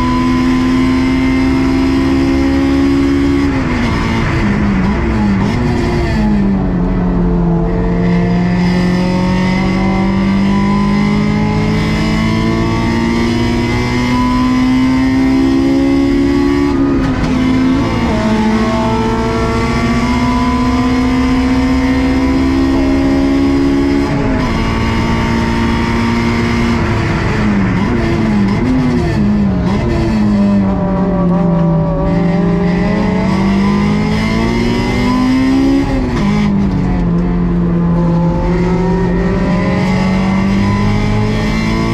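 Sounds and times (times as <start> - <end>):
car engine revving high: 0.0 - 41.9.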